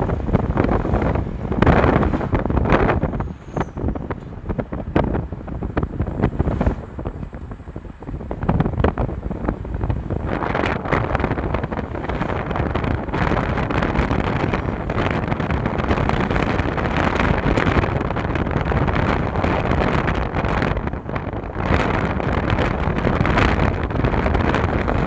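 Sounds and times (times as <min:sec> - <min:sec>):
vehicle rumble: 0:00.0 - 0:25.0
wind buffeting microphone: 0:00.0 - 0:25.0.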